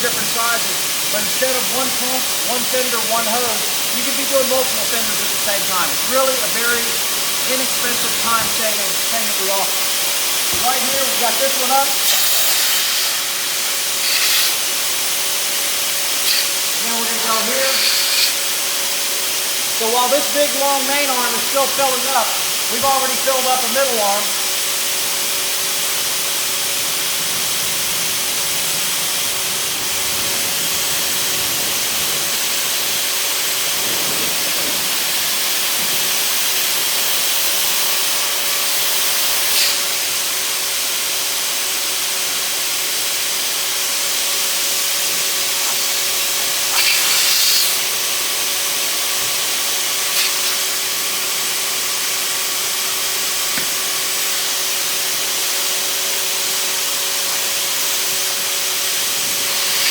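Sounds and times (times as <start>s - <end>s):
air pump rushing hiss: 0.0s - 59.9s
pump motor hum: 0.0s - 59.9s.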